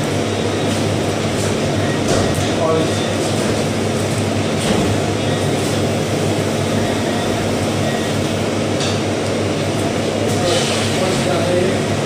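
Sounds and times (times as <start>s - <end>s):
refrigeration fans rushing: 0.0s - 12.0s.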